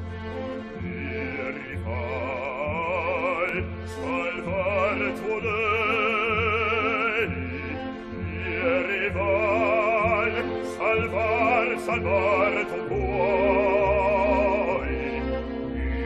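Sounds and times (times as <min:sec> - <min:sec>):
orchestra playing low chords: 0:00.0 - 0:16.0
man singing operatic bass: 0:00.7 - 0:16.0.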